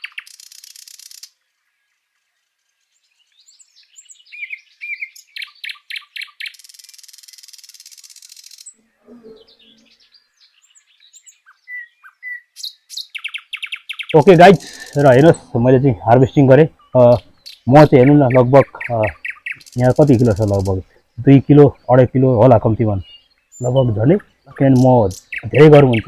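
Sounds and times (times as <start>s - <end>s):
dry buzzy bird trill: 0.0s - 26.0s
small birds chirping: 0.0s - 26.0s.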